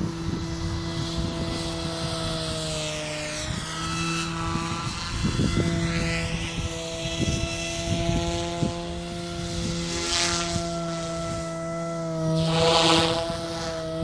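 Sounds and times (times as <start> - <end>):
rc helicopter rotor hum: 0.0 - 14.0.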